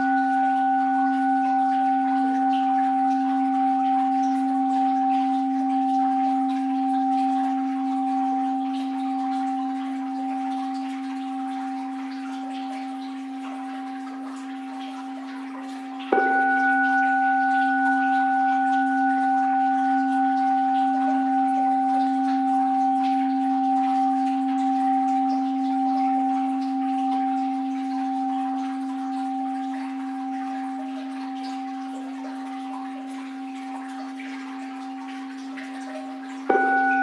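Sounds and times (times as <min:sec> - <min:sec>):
bowl bell ringing: 0:00.0 - 0:37.0
faint flowing water: 0:00.0 - 0:37.0.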